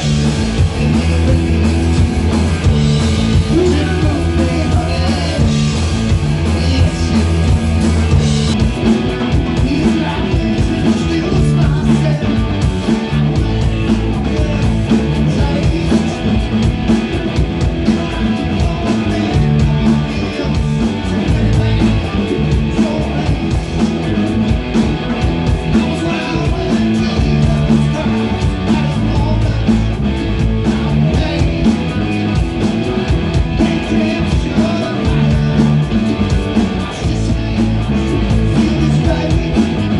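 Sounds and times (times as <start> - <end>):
bass guitar: 0.0 - 39.9
drum kit dance beat: 0.0 - 39.9
electric guitar: 0.0 - 39.9.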